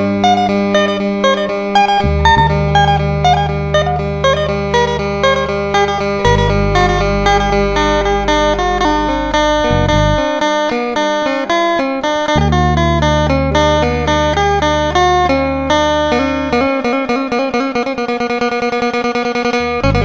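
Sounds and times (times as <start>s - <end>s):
held bass notes: 0.0s - 20.0s
plucked guitar picking notes: 0.0s - 20.0s.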